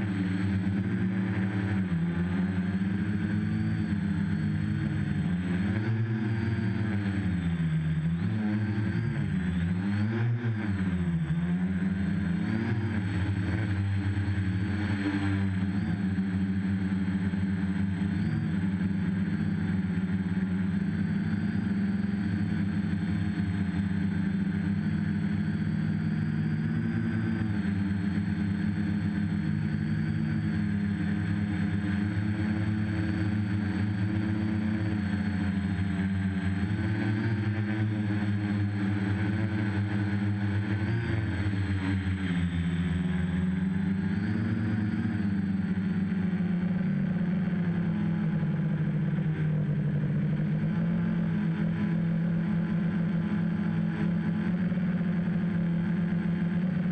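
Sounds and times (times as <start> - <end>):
drone propellers droning: 0.0 - 56.9.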